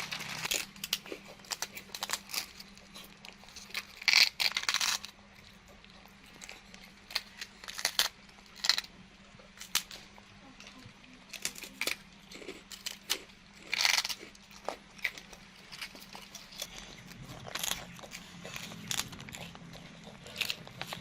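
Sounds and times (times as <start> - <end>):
monkey chewing crunchy crackers: 0.0 - 21.0.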